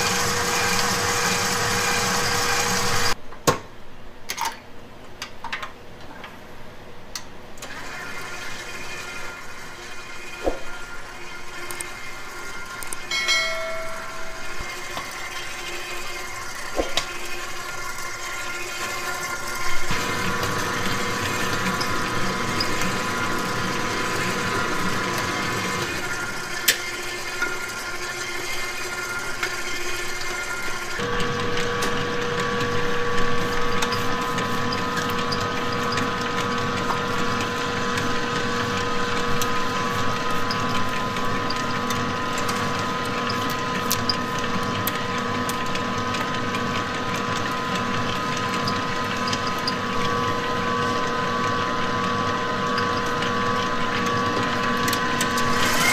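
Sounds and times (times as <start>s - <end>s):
stand mixer motor whine: 0.0s - 3.2s, 7.6s - 13.1s, 13.8s - 55.9s.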